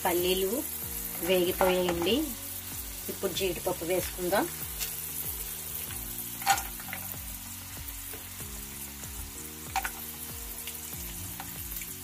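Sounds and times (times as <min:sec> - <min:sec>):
peanuts sizzling in hot oil: 0:00.0 - 0:12.0.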